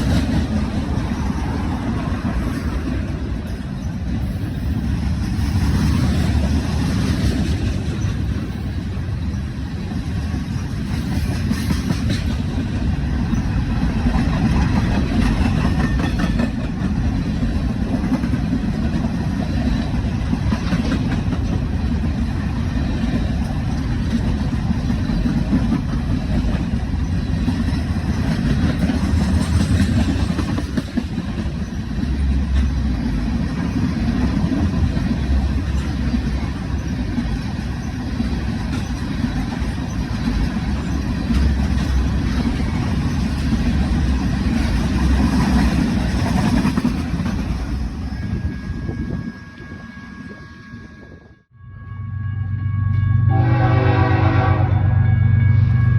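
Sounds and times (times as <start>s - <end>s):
train rumbling past: 0.0s - 55.9s.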